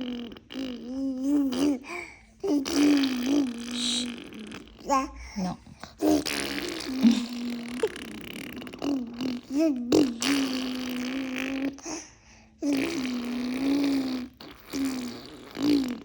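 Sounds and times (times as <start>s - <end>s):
person making buzzing vocal sounds: 0.0s - 16.0s.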